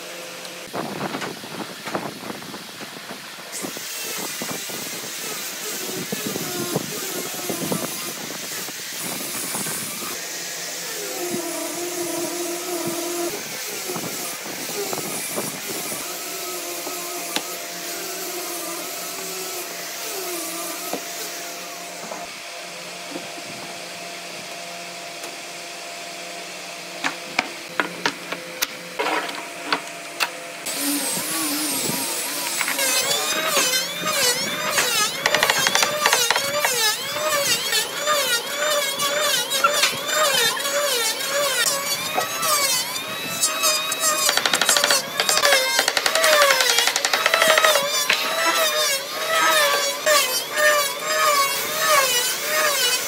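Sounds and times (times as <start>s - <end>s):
woodworking tools whirring with clicks: 0.4s - 2.1s, 2.8s - 25.5s, 27.0s - 53.0s
woodworking tool humming: 3.6s - 53.0s.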